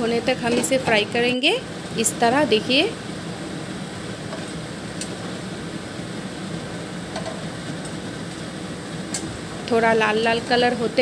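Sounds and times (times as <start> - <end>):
fritters sizzling in oil: 0.1 - 11.0.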